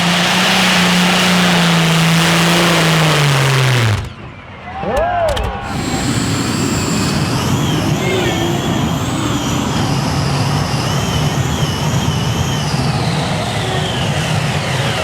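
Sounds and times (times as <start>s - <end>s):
tractor engine running hard: 0.0s - 4.4s, 5.4s - 15.0s
high whistling whine: 0.0s - 4.8s, 5.6s - 15.0s.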